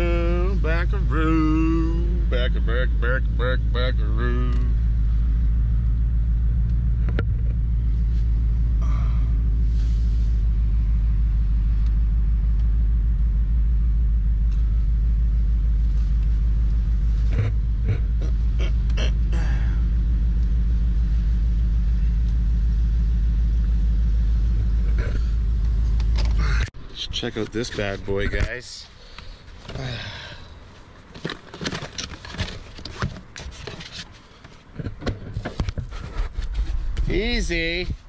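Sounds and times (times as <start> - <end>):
truck engine rumbling: 0.0 - 38.0.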